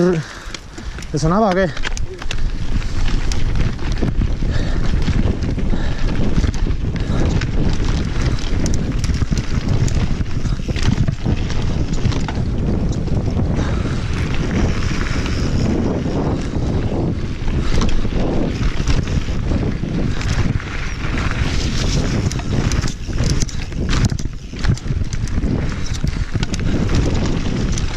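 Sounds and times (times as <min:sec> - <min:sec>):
tyres rumbling on dirt: 0:00.0 - 0:27.9
wind rushing over microphone: 0:00.0 - 0:27.9
bike knocks and rattles: 0:00.3 - 0:27.9.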